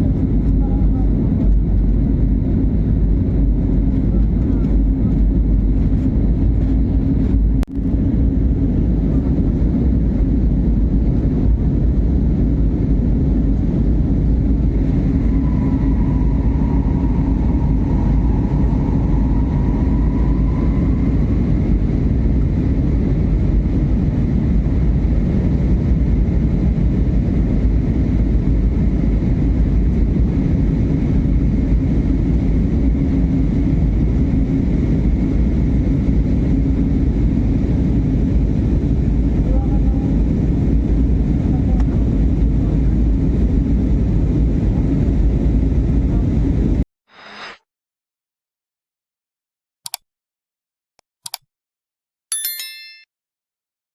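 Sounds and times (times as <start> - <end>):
jet airliner taking off: 0.0 - 47.4.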